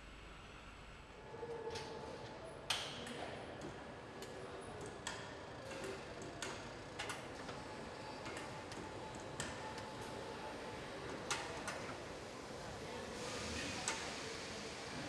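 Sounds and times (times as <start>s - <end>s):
faint factory background: 0.0s - 15.0s.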